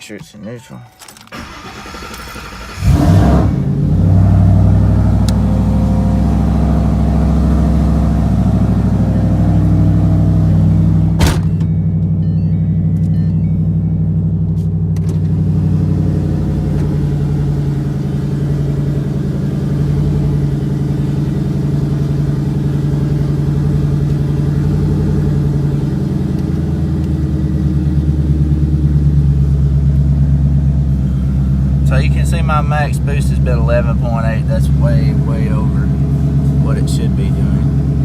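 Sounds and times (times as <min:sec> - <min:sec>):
car engine idling: 0:01.3 - 0:38.0.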